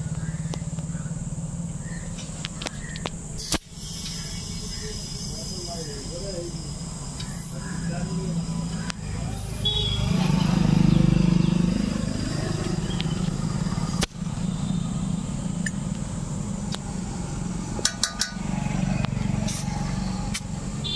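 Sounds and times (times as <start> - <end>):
air compressor humming: 0.0 - 10.0, 11.4 - 20.9.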